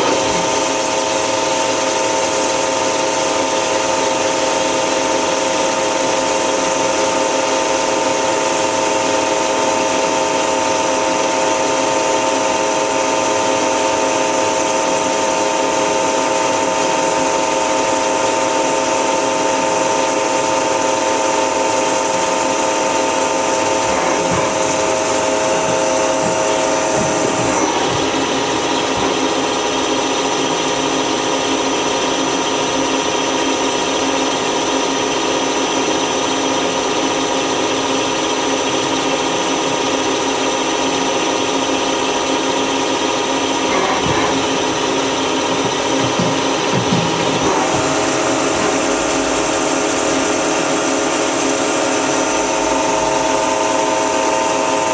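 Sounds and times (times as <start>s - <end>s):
machine whine over hiss: 0.0s - 54.9s.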